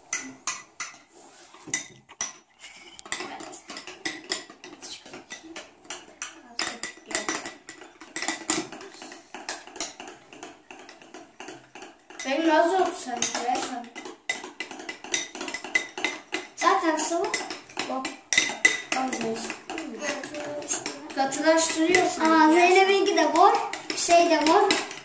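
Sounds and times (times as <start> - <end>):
spoons scraping bowls: 0.0 - 25.0.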